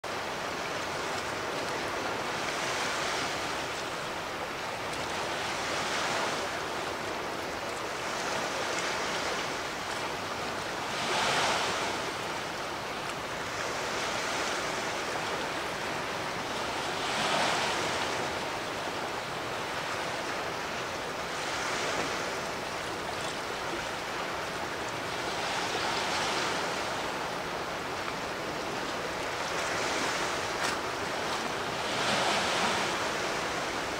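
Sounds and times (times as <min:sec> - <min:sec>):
sea waves washing in: 0:00.1 - 0:33.9.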